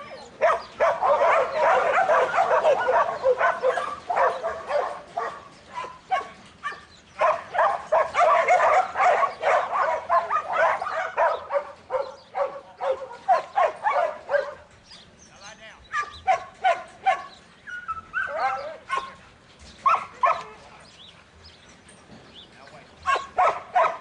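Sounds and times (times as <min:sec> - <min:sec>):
dogs barking and yipping: 0:00.0 - 0:15.2, 0:15.8 - 0:24.0.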